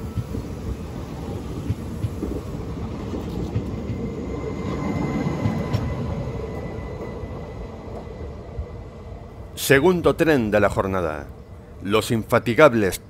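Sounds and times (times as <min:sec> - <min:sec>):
train wheels rumbling on rails: 0:00.0 - 0:12.1
faint high whine: 0:00.0 - 0:13.0.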